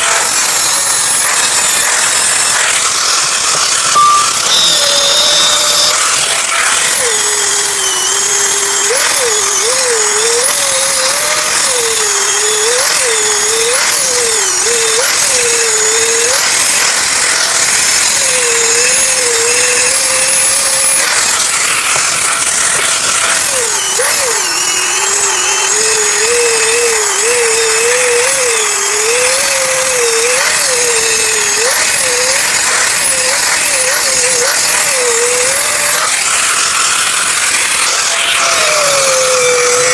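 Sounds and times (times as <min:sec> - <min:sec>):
power grinder grinding steel: 0:00.0 - 0:39.9.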